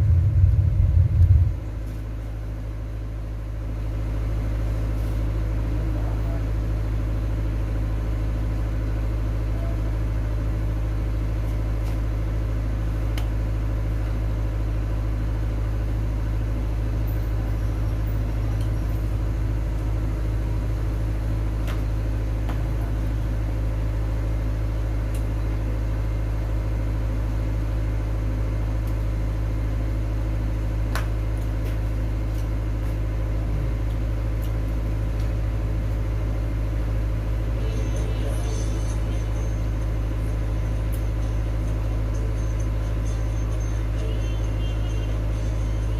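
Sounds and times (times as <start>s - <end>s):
low-pitched hum: 0.0s - 45.9s.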